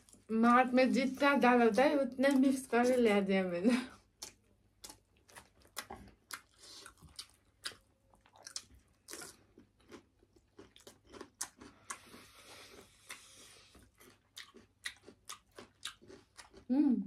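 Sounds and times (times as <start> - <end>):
people chewing with mouth smacks: 0.0 - 0.6, 3.9 - 17.0.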